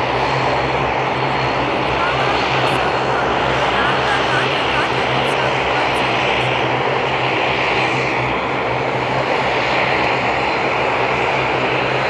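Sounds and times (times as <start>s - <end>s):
aircraft engines roaring: 0.0s - 12.0s.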